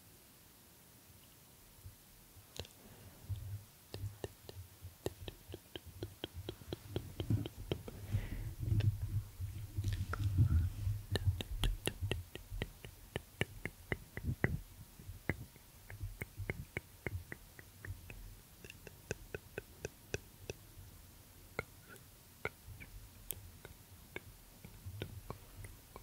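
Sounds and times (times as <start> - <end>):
fingertip tapping on microphone: 3.3 - 20.6, 21.6 - 26.0.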